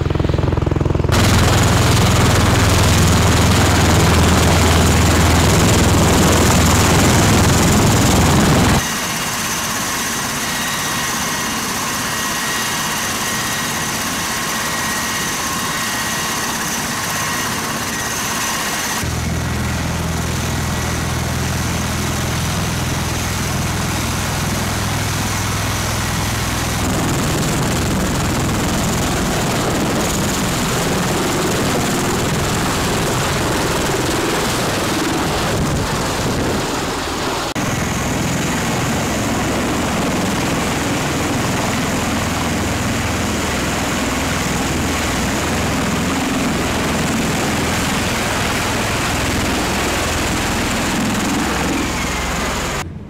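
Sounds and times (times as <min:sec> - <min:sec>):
deep rotor drone: 0:00.0 - 0:09.0, 0:11.1 - 0:53.0
high turbine whine: 0:00.0 - 0:53.0.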